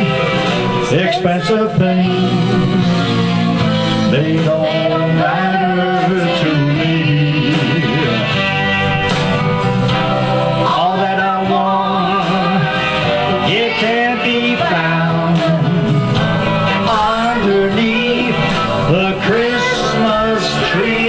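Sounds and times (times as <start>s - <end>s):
country christmas song with singing: 0.0s - 21.0s.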